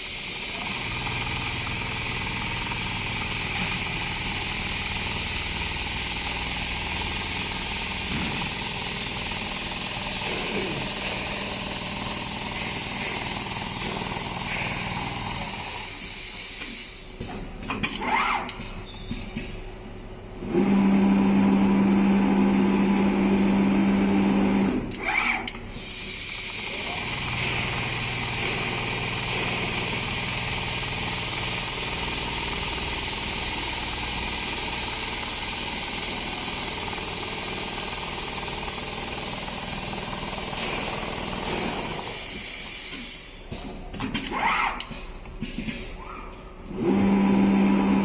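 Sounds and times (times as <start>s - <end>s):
sewing machine running: 0.0s - 16.0s, 20.4s - 43.5s, 46.7s - 48.0s.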